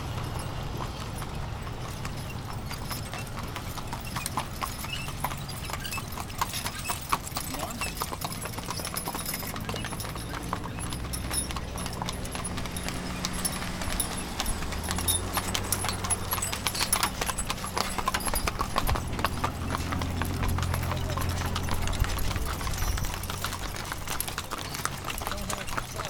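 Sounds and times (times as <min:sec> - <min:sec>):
hooves clip-clopping on asphalt: 0:00.0 - 0:26.0.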